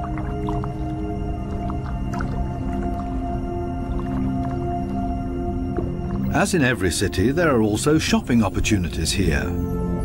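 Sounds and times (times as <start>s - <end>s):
music of long held notes: 0.0s - 10.0s.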